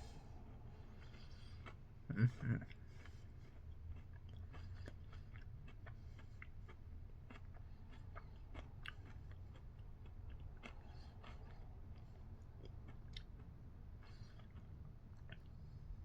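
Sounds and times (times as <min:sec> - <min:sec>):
low steady hum: 0:00.0 - 0:16.0
person chewing crunchy chocolate: 0:01.0 - 0:15.7.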